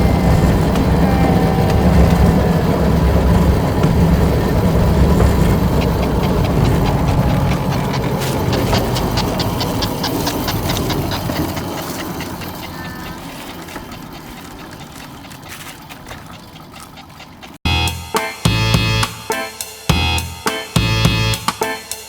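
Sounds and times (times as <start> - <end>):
train rumbling on rails: 0.0 - 17.7.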